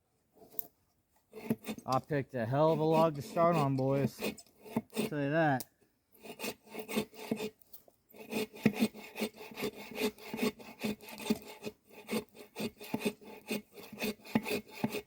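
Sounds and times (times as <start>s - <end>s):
hand saw cutting log: 0.4s - 15.0s.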